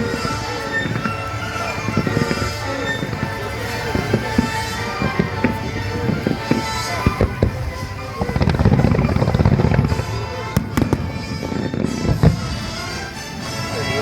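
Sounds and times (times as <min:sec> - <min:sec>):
deep rumbling of fireworks: 0:00.0 - 0:14.0
fireworks bursting with bangs: 0:00.0 - 0:14.0
music playing: 0:00.0 - 0:14.0.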